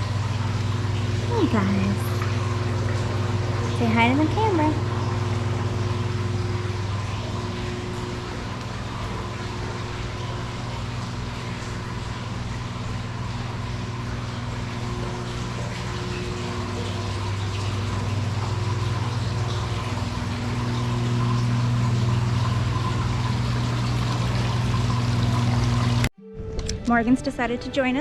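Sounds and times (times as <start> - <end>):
running water: 0.0 - 26.1
aquarium pump humming: 0.0 - 28.0.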